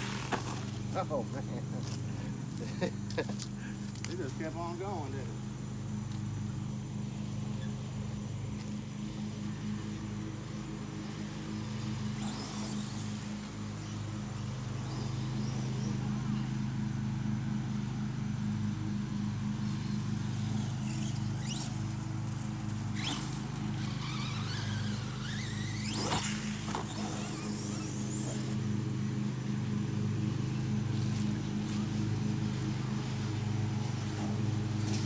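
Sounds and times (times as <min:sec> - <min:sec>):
electric motor whining: 0:00.0 - 0:35.0
steady low hum: 0:00.0 - 0:35.0.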